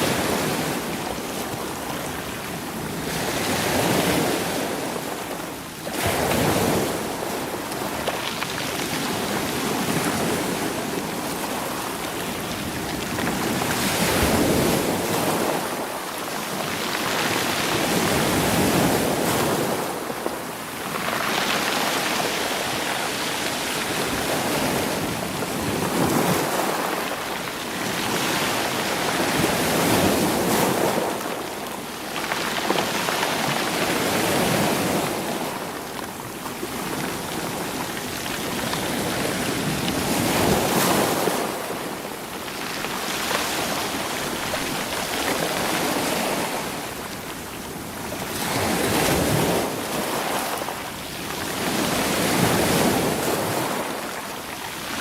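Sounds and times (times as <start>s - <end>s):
waves washing over rocks: 0.0s - 55.0s.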